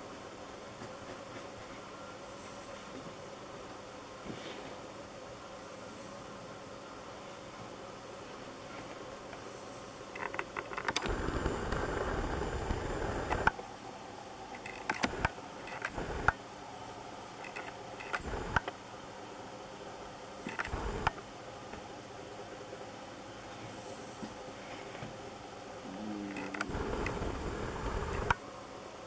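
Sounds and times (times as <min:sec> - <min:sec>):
steady low hiss: 0:00.0 - 0:29.0.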